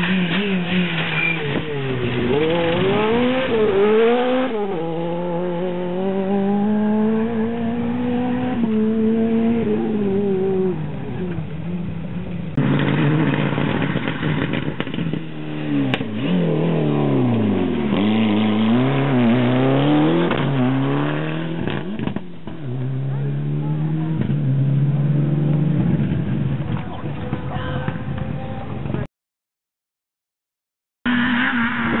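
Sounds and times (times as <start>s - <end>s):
rally car engine accelerating: 0.0s - 27.4s.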